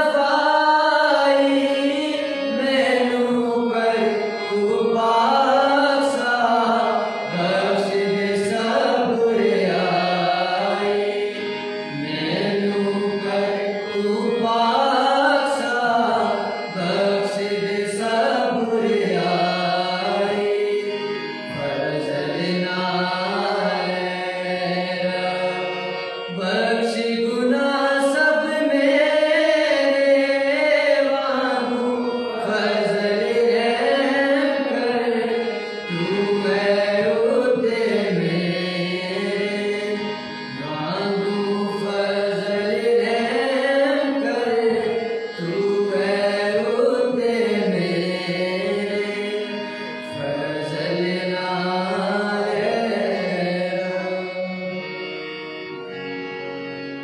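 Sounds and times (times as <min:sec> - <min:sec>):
voices singing devotional melody: 0:00.0 - 0:57.0.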